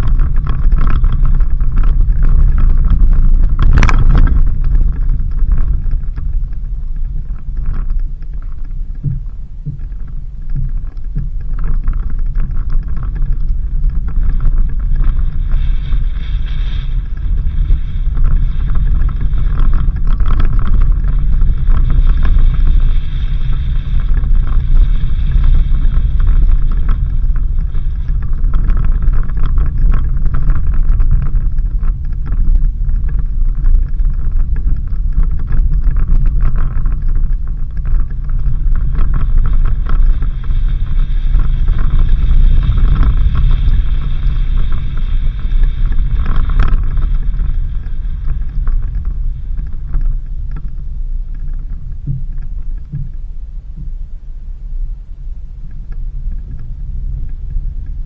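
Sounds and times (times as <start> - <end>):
small knocks and rattles: 0.0 - 54.0
engine and tyres rumbling: 0.0 - 58.0.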